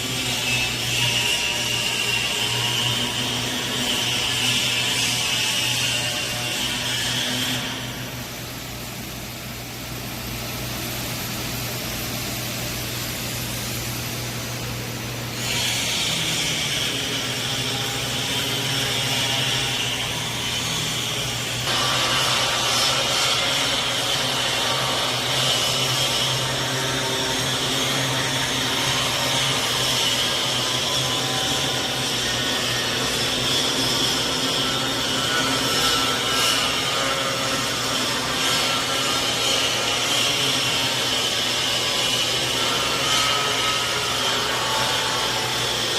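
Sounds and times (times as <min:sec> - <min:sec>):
low electrical hum: 0:00.0 - 0:45.9
welding arc hissing: 0:00.0 - 0:45.9.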